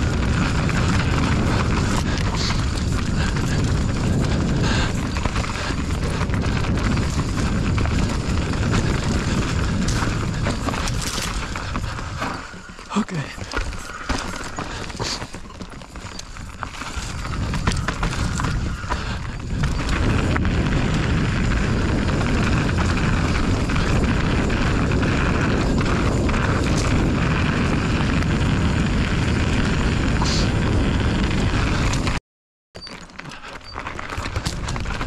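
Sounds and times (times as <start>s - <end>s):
wind noise on microphone: 0.0s - 12.8s, 13.4s - 32.2s, 32.8s - 35.0s
bike clicks and rattles: 0.0s - 32.2s, 32.8s - 35.0s.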